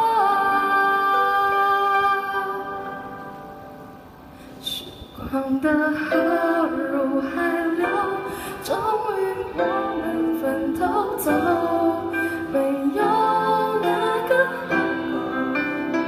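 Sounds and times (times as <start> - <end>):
woman singing into microphone: 0.0 - 3.4, 4.6 - 16.0.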